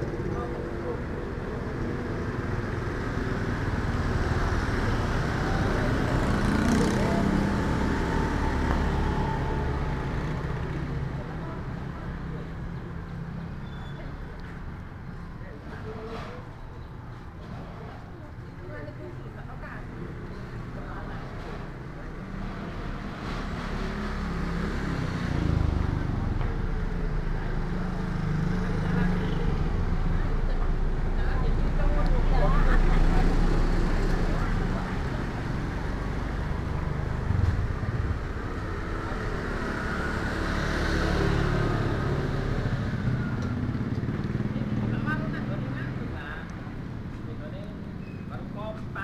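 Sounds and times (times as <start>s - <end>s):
vehicle engine passing: 0.0s - 12.8s, 20.4s - 47.7s
steady traffic hum: 0.0s - 49.0s.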